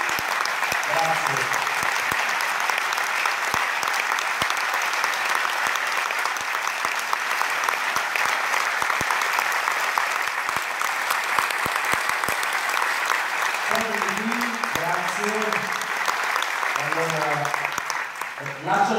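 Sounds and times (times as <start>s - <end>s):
large audience applauding: 0.0s - 18.9s.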